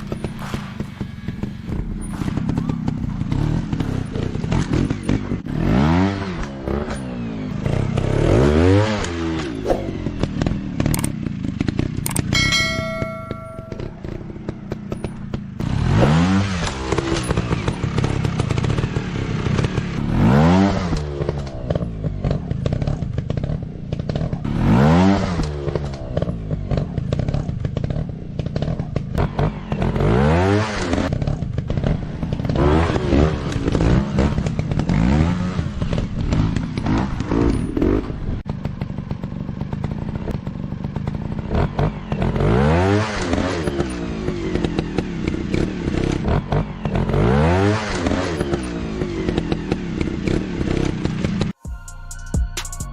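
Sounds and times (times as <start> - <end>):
dirt bike engine revving: 0.0 - 51.6.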